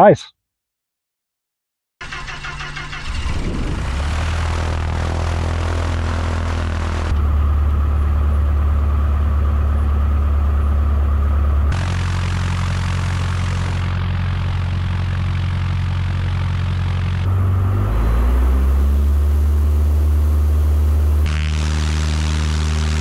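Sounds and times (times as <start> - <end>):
plane engine low drone: 3.1 - 23.0.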